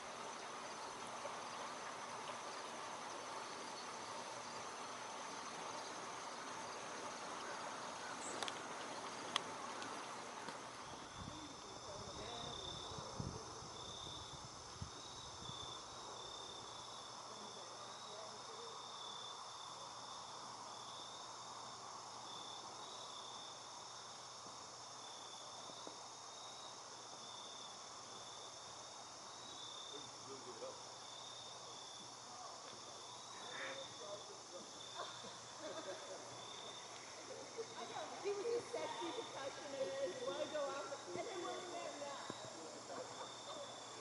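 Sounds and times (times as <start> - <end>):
faint outdoor hiss: 0.0 - 44.0
insects trilling: 0.0 - 44.0.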